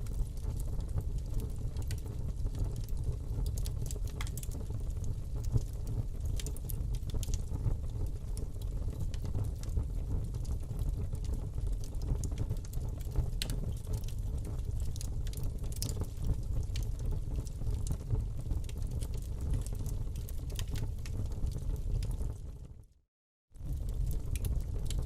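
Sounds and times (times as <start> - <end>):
wood fire crackling: 0.0 - 22.7, 23.6 - 25.0.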